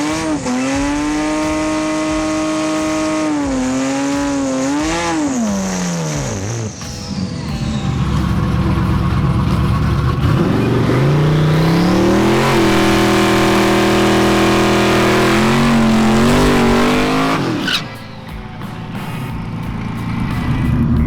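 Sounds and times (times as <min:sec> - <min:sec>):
drag car engines at full throttle: 0:00.0 - 0:21.0.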